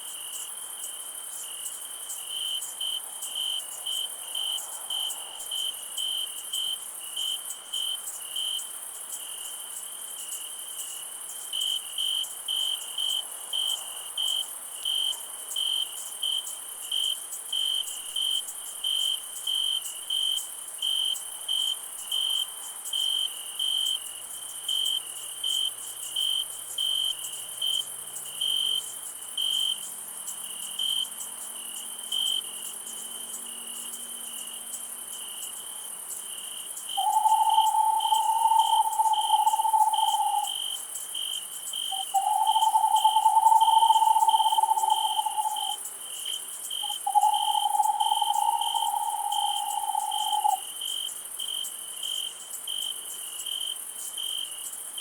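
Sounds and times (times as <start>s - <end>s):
crickets chirping: 0.0s - 55.0s
high-pitched insect trill: 0.0s - 55.0s.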